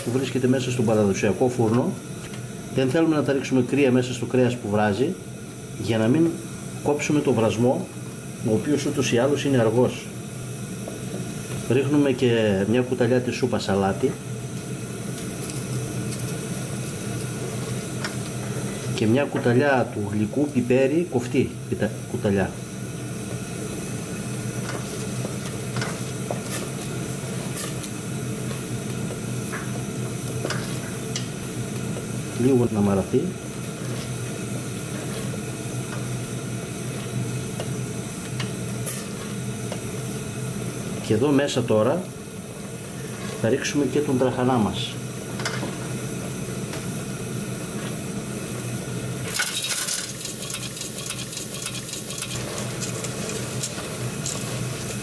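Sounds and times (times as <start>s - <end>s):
onions sizzling and bubbling: 5.2s - 55.0s.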